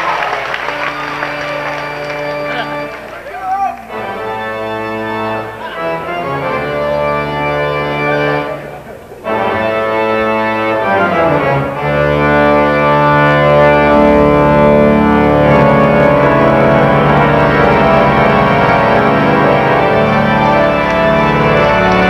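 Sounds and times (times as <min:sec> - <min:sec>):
pipe organ playing slow chords: 0:00.0 - 0:22.0.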